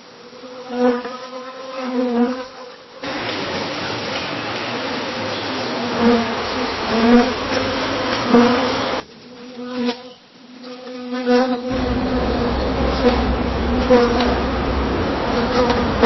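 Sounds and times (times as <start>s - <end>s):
bee buzzing in flight: 0.2s - 3.1s, 5.3s - 16.0s.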